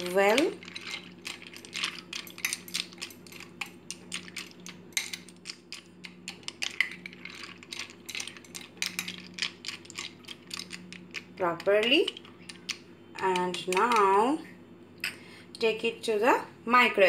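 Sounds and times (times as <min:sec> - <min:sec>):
spoon clinking and scraping bowl: 0:00.0 - 0:14.2.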